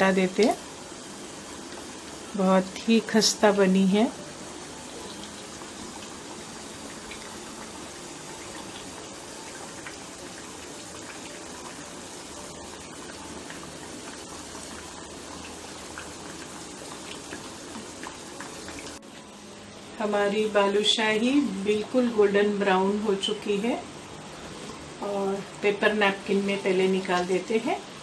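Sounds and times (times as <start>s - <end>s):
fine crackles of frying: 0.0s - 28.0s
oil sizzling and bubbling: 0.0s - 28.0s.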